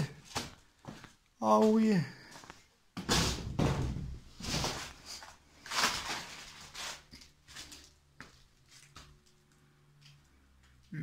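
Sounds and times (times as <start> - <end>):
rustling and shuffling: 0.0 - 10.9.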